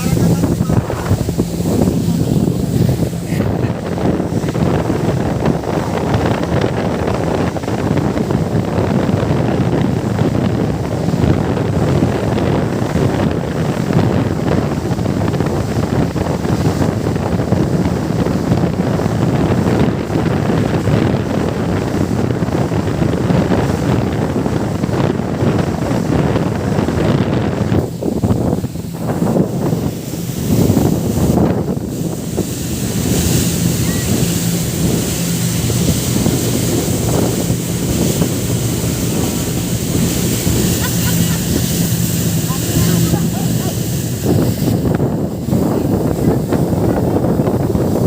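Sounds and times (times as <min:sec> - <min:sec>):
steady low drone: 0:00.0 - 0:16.3, 0:23.2 - 0:48.0
water rushing past: 0:00.0 - 0:48.0
wind buffeting microphone: 0:00.0 - 0:48.0.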